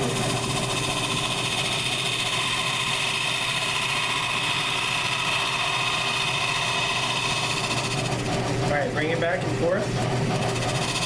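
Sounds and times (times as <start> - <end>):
lathe humming with high whine: 0.0 - 11.0.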